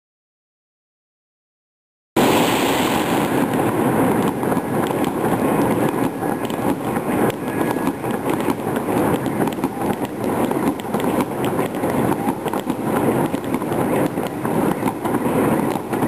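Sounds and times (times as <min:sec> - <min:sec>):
fireworks crackling and banging: 0:02.2 - 0:16.0.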